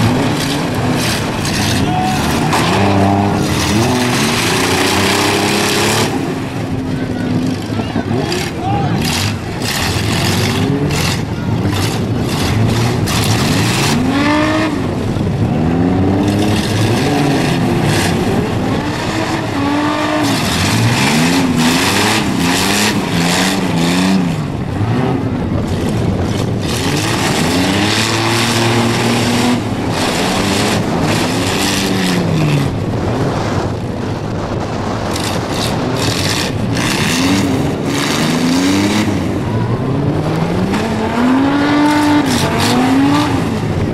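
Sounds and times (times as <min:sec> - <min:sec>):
van engines revving: 0:00.0 - 0:43.9
vans crashing: 0:00.0 - 0:43.9.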